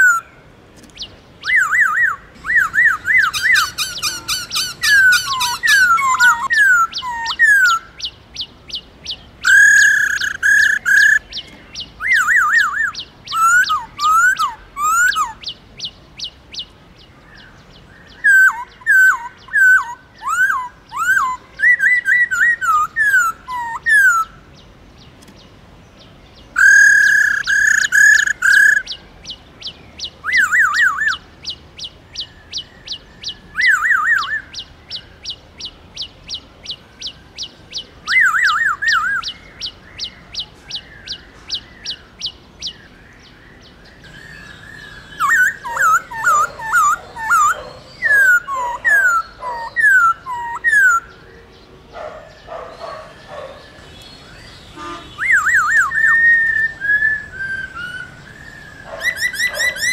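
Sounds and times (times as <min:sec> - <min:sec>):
bird singing whistled phrases: 0:01.4 - 0:16.0, 0:18.0 - 0:24.4, 0:26.6 - 0:29.0, 0:29.6 - 0:31.6, 0:32.2 - 0:43.4, 0:44.0 - 0:51.2, 0:54.2 - 0:59.9.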